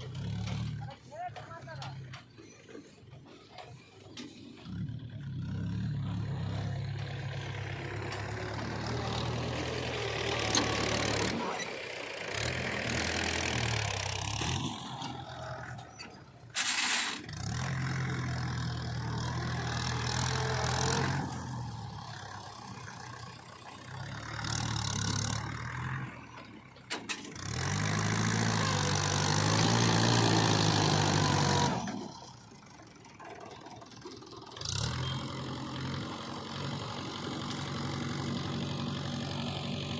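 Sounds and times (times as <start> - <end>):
heavy diesel engine revving: 0.0 - 33.4, 34.0 - 39.9.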